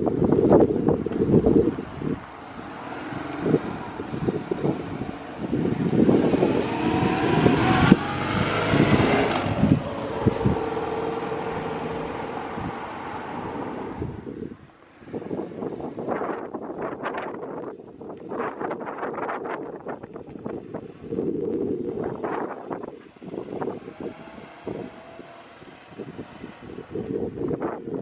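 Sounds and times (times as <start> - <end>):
wind buffeting on microphone: 0.0 - 28.0.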